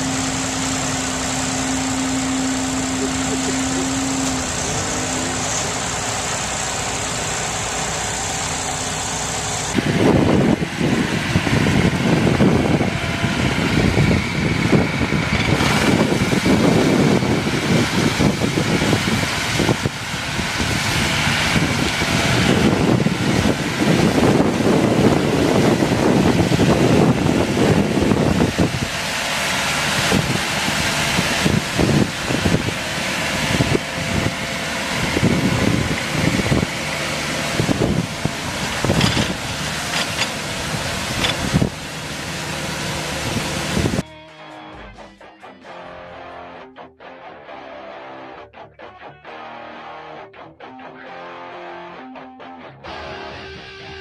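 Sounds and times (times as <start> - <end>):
tractor engine running: 0.0 - 44.0
high whine: 0.0 - 48.5, 51.1 - 54.0.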